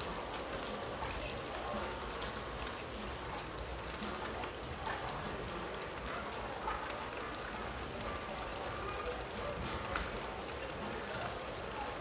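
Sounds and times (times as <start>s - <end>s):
heavy rain on brick paving: 0.0s - 12.0s.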